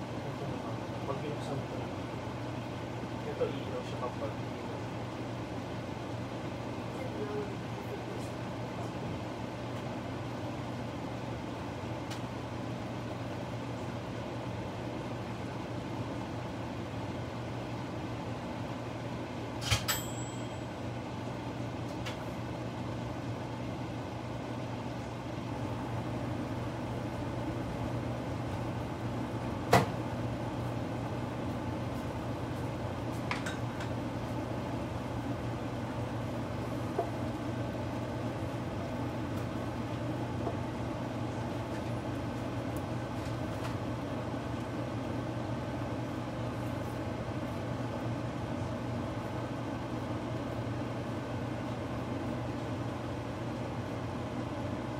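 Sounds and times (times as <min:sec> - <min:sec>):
pot simmering with hum and hiss: 0:00.0 - 0:54.9.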